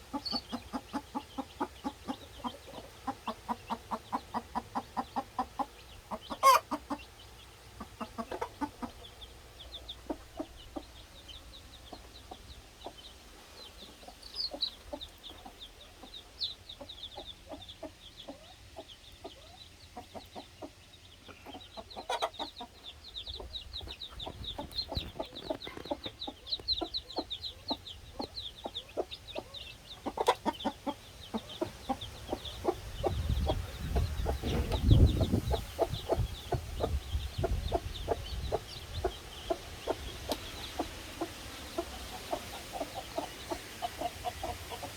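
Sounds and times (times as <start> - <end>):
chicks peeping: 0.0 - 44.9
hen clucking: 0.0 - 44.9.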